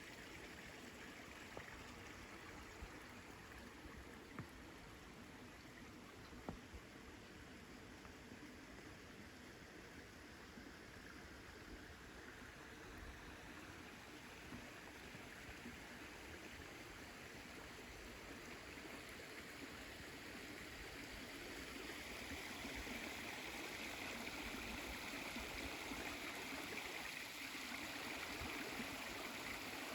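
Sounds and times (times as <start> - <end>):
stream of water flowing: 0.0 - 29.9.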